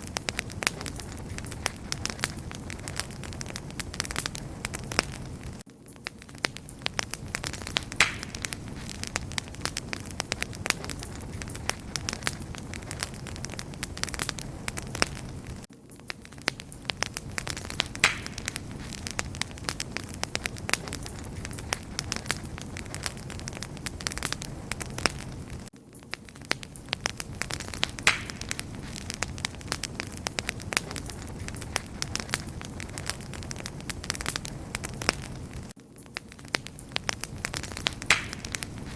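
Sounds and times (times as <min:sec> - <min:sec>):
low rush of flame: 0:00.0 - 0:05.6, 0:06.3 - 0:15.7, 0:16.3 - 0:25.7, 0:26.3 - 0:35.8
wood fire crackling and popping: 0:00.0 - 0:38.9.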